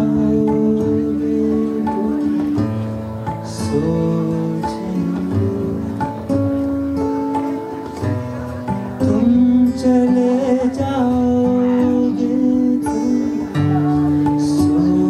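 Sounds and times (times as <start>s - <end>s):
plucked string instrument music: 0.0s - 15.0s.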